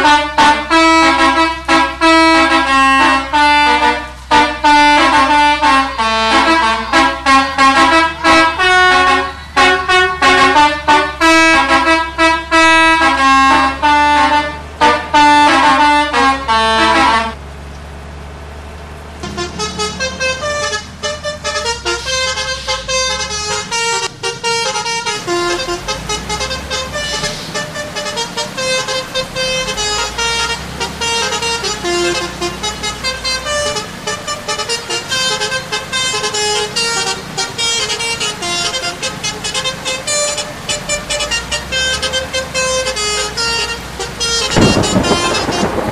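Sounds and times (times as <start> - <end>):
multi-tone horn melodies: 0.0 - 17.4, 19.2 - 45.9
low engine hum: 0.0 - 45.9.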